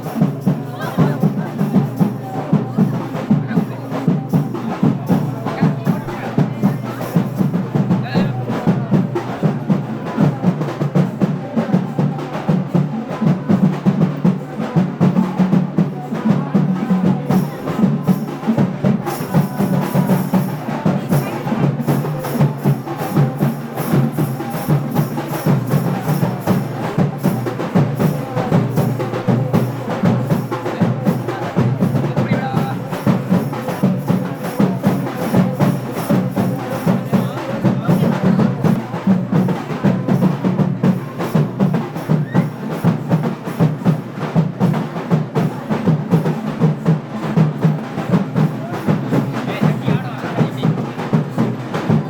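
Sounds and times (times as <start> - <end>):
fast drumming: 0.0 - 52.0.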